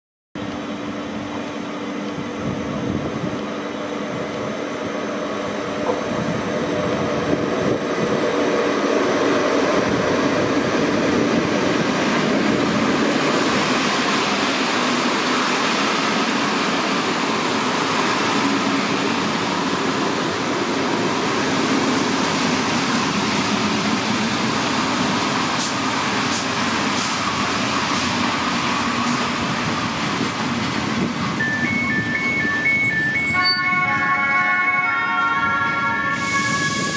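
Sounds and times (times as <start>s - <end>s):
train wheel and rail noise: 0.4s - 36.9s.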